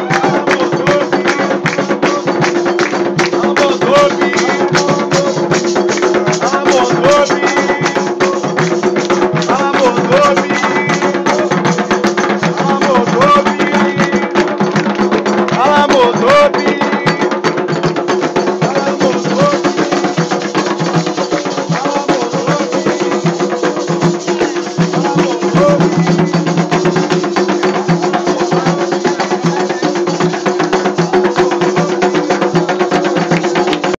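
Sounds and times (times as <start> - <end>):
hand drums and percussion: 0.0 - 33.9
voices singing: 0.0 - 33.9.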